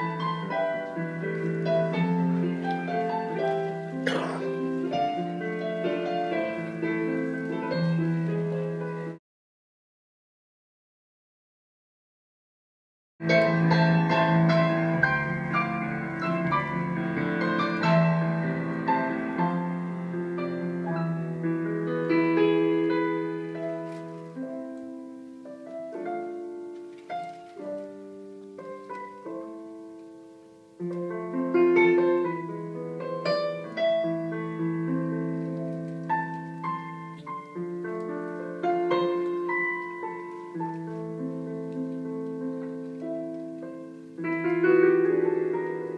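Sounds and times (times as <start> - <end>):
solo piano music: 0.0 - 9.2, 13.2 - 45.9.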